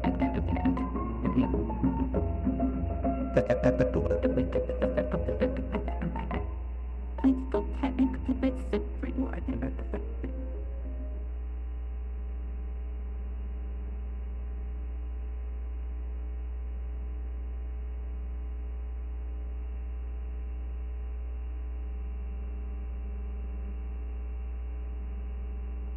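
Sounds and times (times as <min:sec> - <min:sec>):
electrical mains hum: 0:00.0 - 0:25.9
faint buzz: 0:00.0 - 0:25.9.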